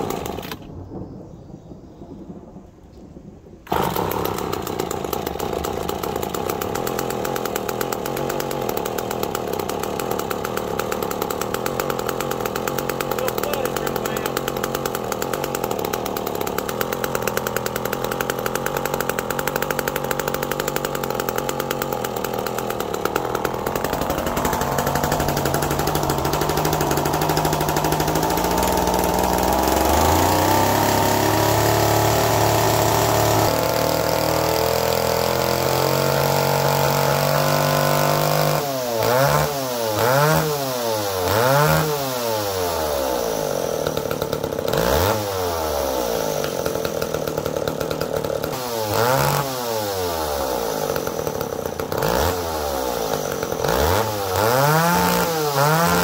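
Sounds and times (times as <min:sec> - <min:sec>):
chainsaw running and revving: 0:00.0 - 0:00.7, 0:03.7 - 0:56.0.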